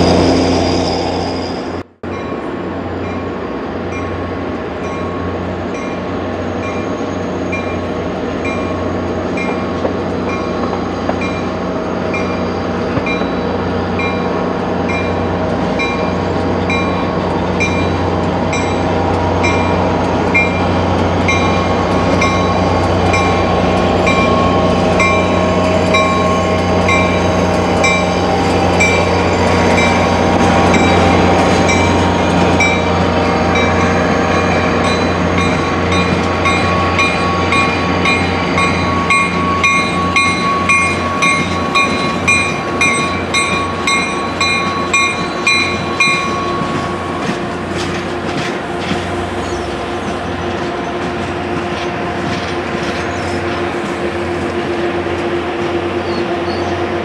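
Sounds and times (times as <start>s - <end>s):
train bell ringing: 0.0s - 47.8s
diesel locomotive engine drone: 0.0s - 57.0s.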